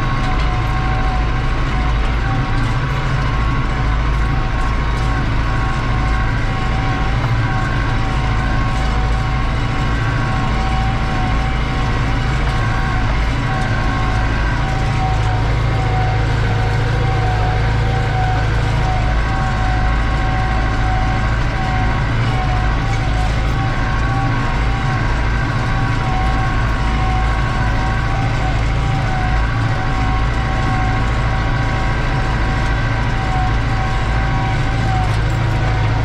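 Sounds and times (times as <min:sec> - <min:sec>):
diesel tractor engine running: 0:00.0 - 0:36.0
high turbo whine: 0:00.0 - 0:36.0.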